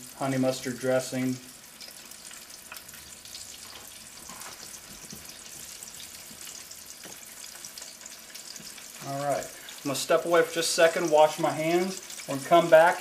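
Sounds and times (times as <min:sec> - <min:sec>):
chicken deep-frying in hot oil: 0:00.0 - 0:13.0.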